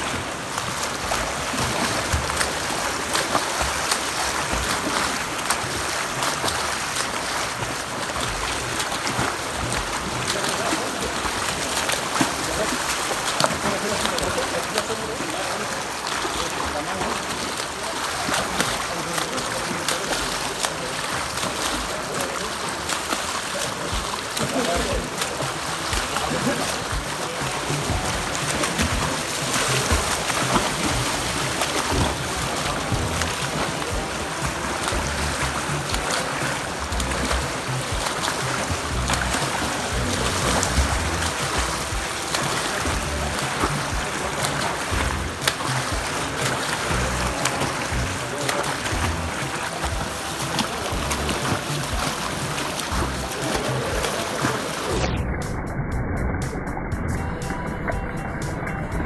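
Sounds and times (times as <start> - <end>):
sharp splashes: 0.0 - 55.1
water splashing and sloshing: 0.0 - 55.2.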